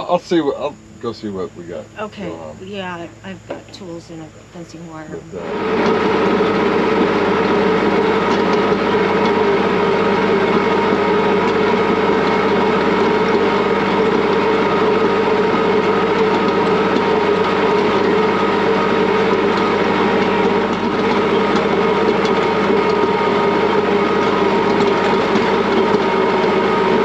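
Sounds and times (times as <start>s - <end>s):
diesel tractor engine running: 2.0s - 27.0s.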